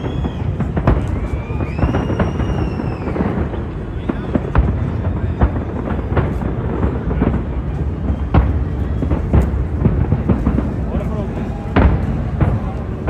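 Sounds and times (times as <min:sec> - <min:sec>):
continuous low rumble: 0:00.0 - 0:13.0
fireworks booms and bangs: 0:00.0 - 0:13.0.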